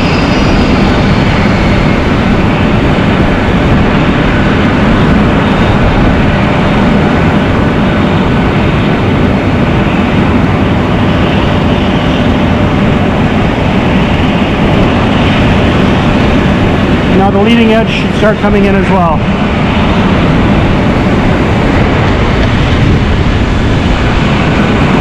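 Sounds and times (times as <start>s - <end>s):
airliner machinery drone: 0.0s - 25.0s.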